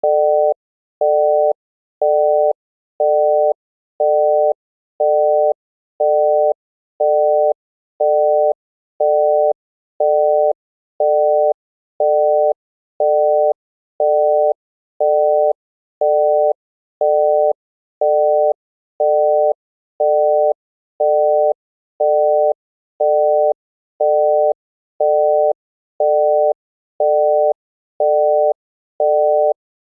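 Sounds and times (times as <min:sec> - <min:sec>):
telephone busy signal beeps: 0:00.0 - 0:29.6.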